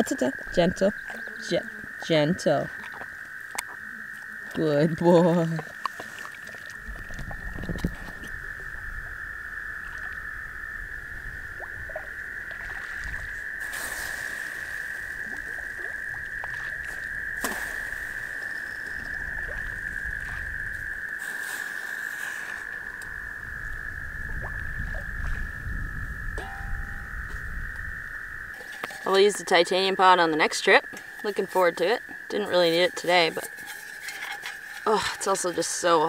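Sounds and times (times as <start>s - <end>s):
frogs trilling: 0.0s - 36.0s.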